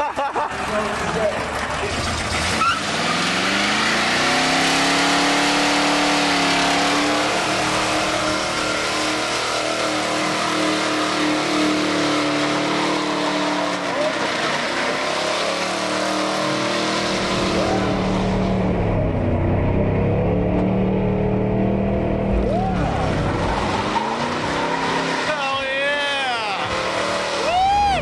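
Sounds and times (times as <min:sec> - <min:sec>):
engine revving: 0:00.4 - 0:28.0.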